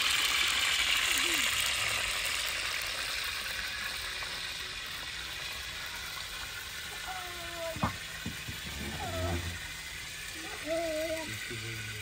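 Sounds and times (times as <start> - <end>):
ghee sizzling in a pan: 0.0 - 12.0.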